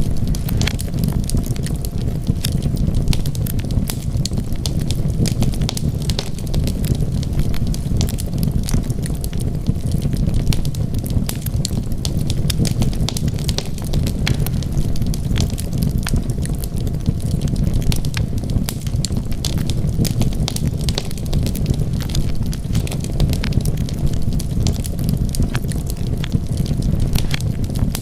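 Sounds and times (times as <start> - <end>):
low rumble of flames: 0.0 - 28.0
wood crackling and popping: 0.0 - 28.0.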